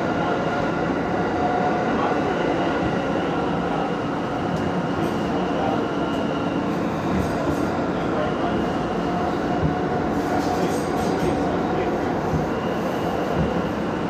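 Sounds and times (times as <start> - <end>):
subway wheels rumbling on rail: 0.0 - 14.0.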